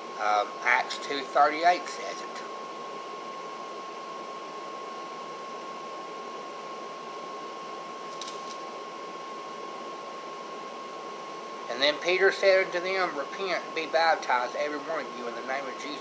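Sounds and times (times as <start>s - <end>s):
fan-like hiss: 0.0s - 16.0s
thin constant whine: 0.0s - 16.0s.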